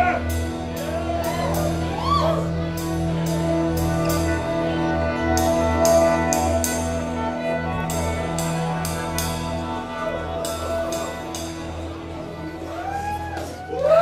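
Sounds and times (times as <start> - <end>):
sustained droning guitar notes: 0.0 - 14.0.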